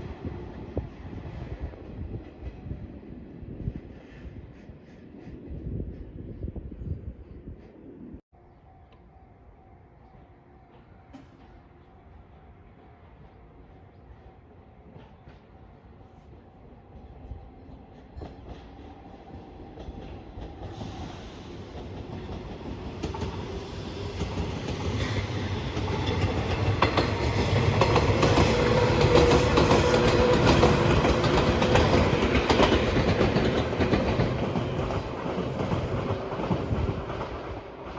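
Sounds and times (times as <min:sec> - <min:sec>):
train rumbling past: 0:00.0 - 0:37.9.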